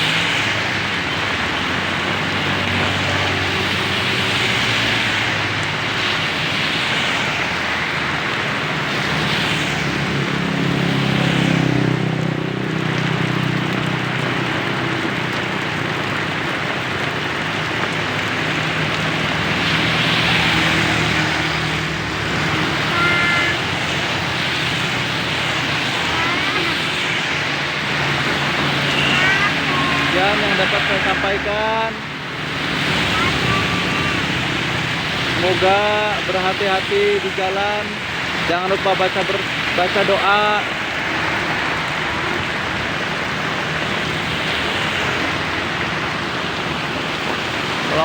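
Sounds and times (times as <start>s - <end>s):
heavy rain: 0.0s - 48.0s
vehicles passing on wet road: 0.0s - 48.0s.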